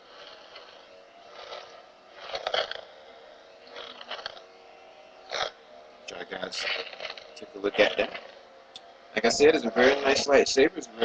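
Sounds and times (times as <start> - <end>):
toy lightsaber humming: 0.0 - 11.0.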